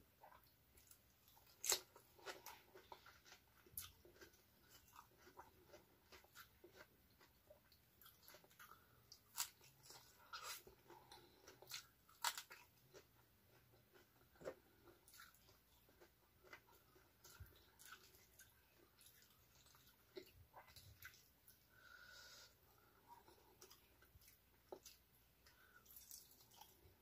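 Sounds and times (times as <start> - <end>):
chewing raw vegetables: 0.2 - 21.7, 22.7 - 27.0.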